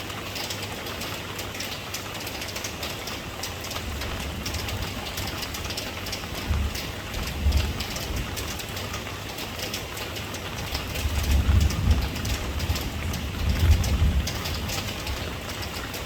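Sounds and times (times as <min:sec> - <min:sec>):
rain drops striking surface: 0:00.0 - 0:16.0.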